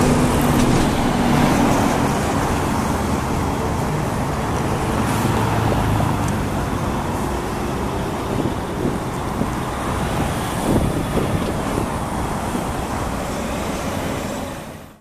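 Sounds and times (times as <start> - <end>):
road traffic noise: 0.0 - 15.0
truck diesel engine passing: 0.0 - 15.0.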